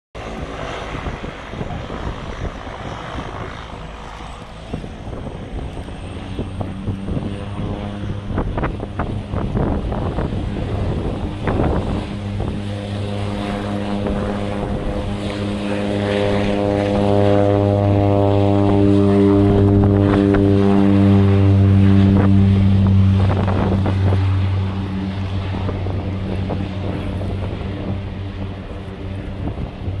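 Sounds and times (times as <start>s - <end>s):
turboprop plane taking off: 0.2s - 30.0s.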